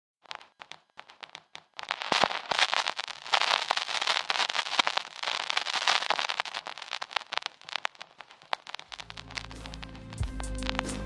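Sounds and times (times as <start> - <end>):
crackling: 0.2 - 11.0.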